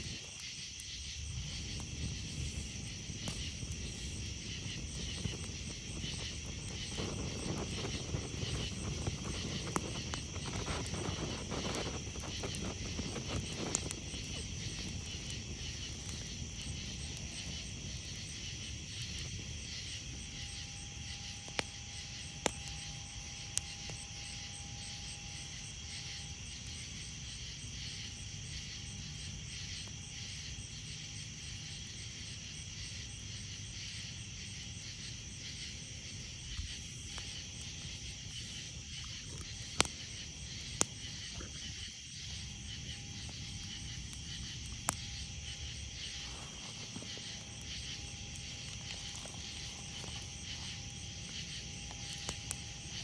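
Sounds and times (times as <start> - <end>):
campfire popping: 0.0 - 53.0
crickets trilling: 0.0 - 53.0.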